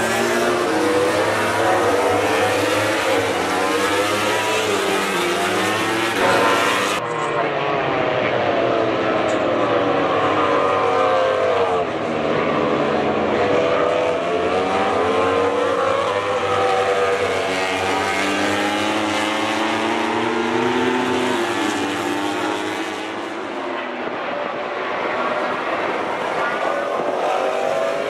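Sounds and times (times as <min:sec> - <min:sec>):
racing motorcycles passing: 0:00.0 - 0:28.0.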